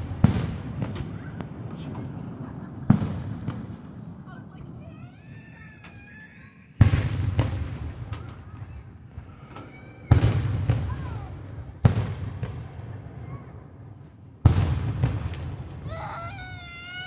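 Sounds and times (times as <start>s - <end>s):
fireworks booms with rumbling echo: 0.0s - 16.6s.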